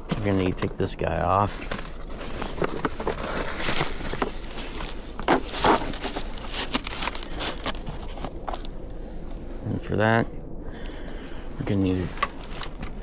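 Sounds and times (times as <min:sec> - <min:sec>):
handling clicks and scrapes: 0:00.0 - 0:09.4, 0:11.9 - 0:13.0
rustling: 0:00.0 - 0:09.7, 0:10.8 - 0:13.0.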